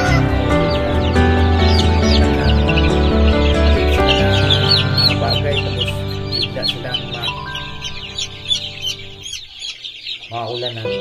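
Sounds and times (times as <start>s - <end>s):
background music with held notes: 0.0s - 11.0s
chicks peeping: 0.0s - 11.0s.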